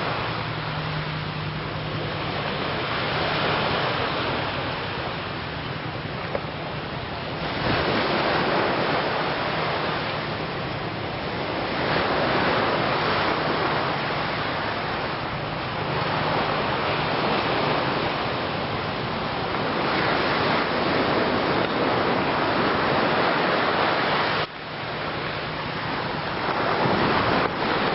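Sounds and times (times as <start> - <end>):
sea surf washing ashore: 0.0 - 27.9.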